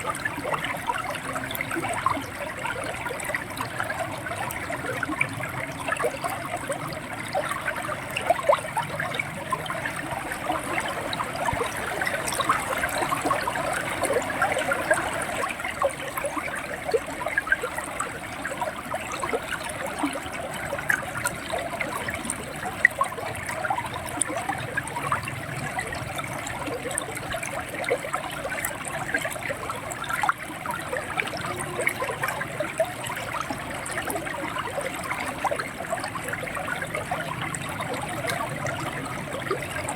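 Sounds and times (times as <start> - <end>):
river water flowing and gurgling: 0.0 - 39.9.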